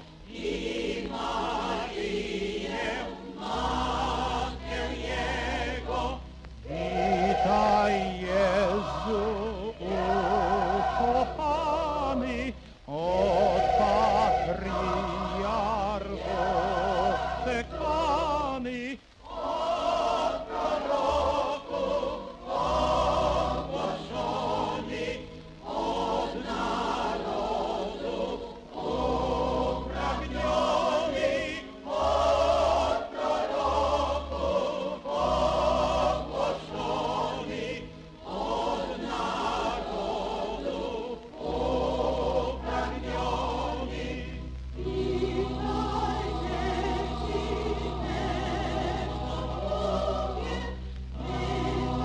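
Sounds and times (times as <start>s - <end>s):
choir singing carol: 0.0s - 52.0s.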